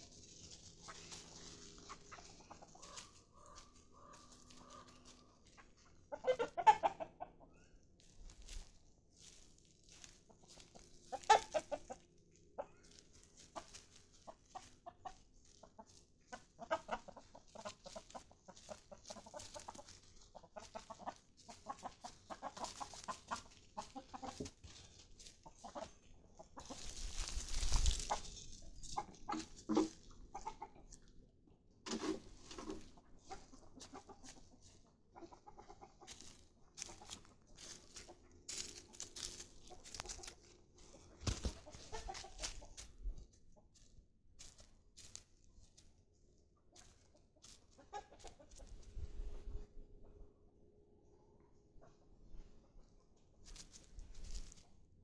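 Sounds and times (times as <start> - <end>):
chickens clucking: 0.0 - 31.2, 31.9 - 45.9, 46.6 - 50.3, 51.4 - 54.7.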